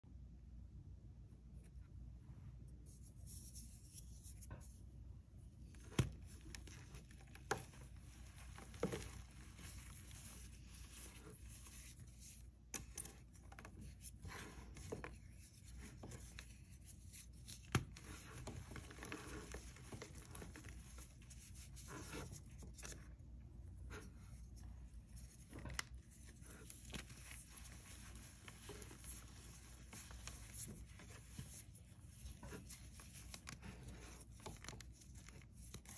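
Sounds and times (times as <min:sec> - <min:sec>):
chalk crumbling and rustling: 0:05.6 - 0:35.9.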